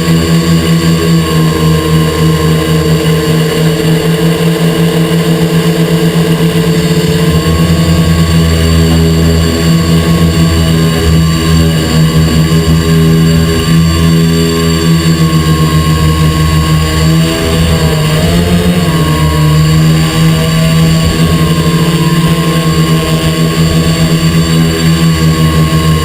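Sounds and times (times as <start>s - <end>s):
quadcopter propellers buzzing: 0.0s - 26.0s.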